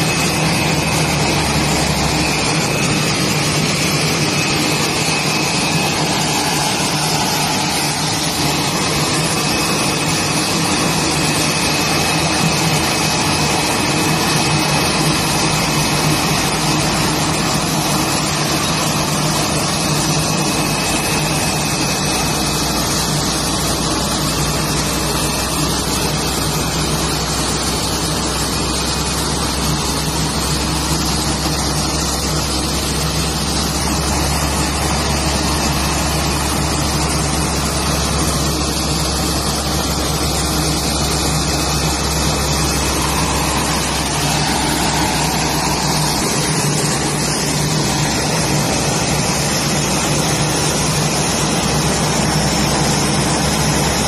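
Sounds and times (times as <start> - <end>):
tug engine low hum: 0.0 - 54.0.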